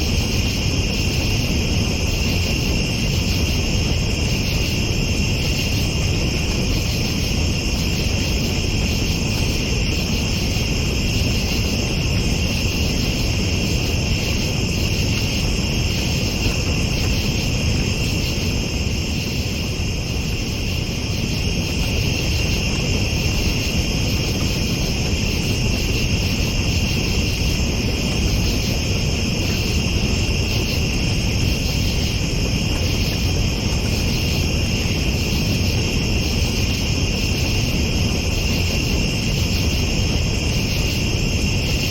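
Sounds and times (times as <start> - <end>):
night insects chirring: 0.0 - 41.9.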